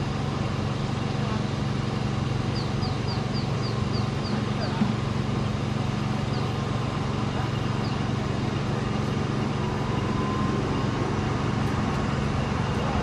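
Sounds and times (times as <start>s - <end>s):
jet engines humming and rushing: 0.0s - 13.0s.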